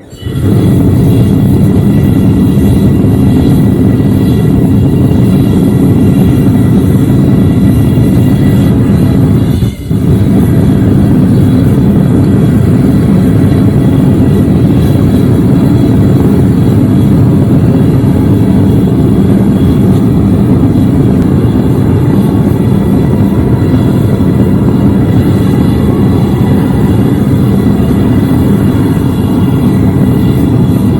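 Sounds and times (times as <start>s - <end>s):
propane forge burner roaring: 0.2s - 30.9s.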